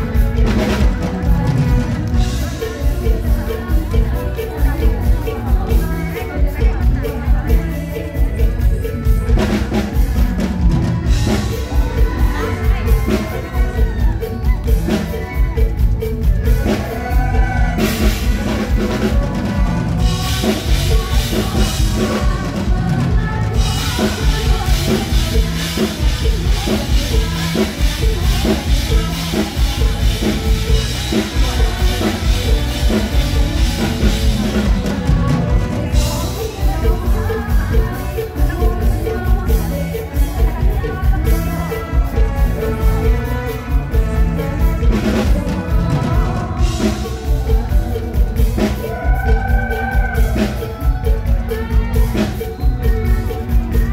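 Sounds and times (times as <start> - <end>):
live band playing: 0.0 - 53.9
person singing: 0.0 - 53.9.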